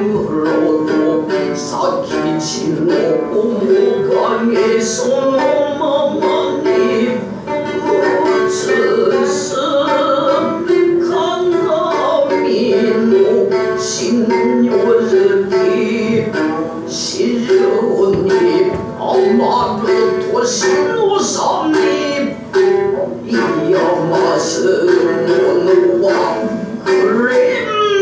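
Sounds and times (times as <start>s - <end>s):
shamisen plucking: 0.0s - 28.0s.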